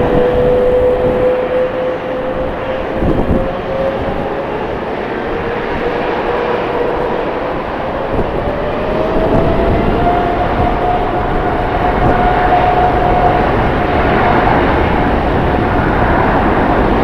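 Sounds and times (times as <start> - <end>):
jet airliner engines: 0.0 - 17.0
wind rumble on microphone: 0.0 - 17.0.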